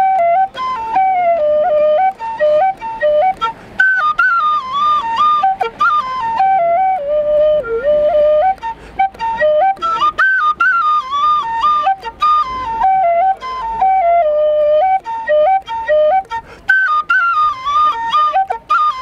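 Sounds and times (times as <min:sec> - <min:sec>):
flute-like melody: 0:00.0 - 0:19.0.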